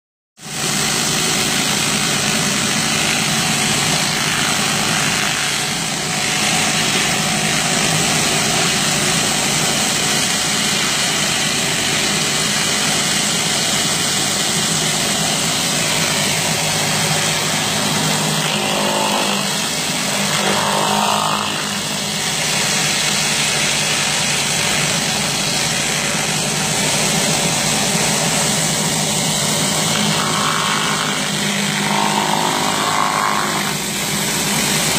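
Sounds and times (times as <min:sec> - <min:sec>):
engine humming: 0:00.4 - 0:34.9
high-pressure water spraying concrete: 0:00.4 - 0:34.9.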